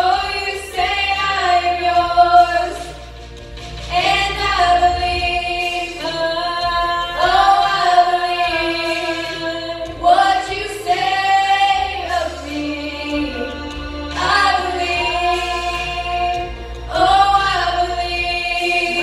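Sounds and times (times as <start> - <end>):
girls singing together: 0.0 - 3.1, 3.9 - 19.0.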